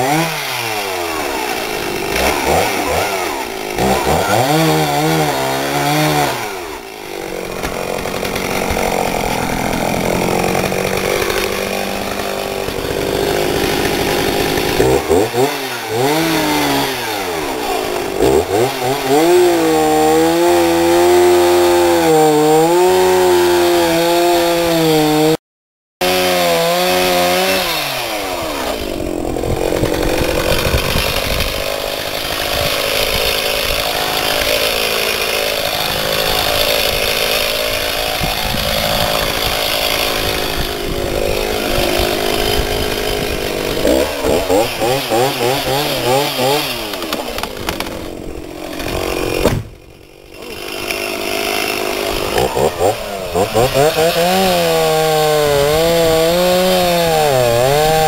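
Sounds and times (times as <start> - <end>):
chainsaw cutting wood: 0.0 - 25.4, 26.0 - 58.0.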